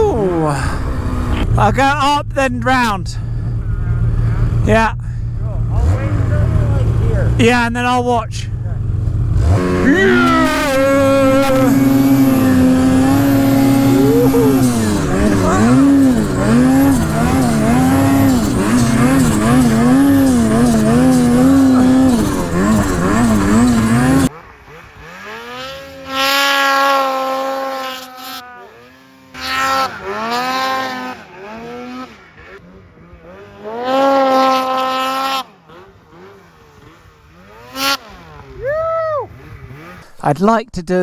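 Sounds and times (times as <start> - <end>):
snowmobile engine running hard: 0.0 - 40.0
snowmobile engine revving: 0.0 - 40.4.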